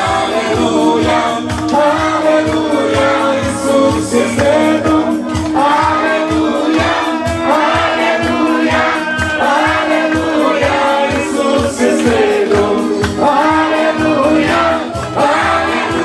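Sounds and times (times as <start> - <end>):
children singing: 0.0 - 16.0
music with steady beat: 0.0 - 16.0.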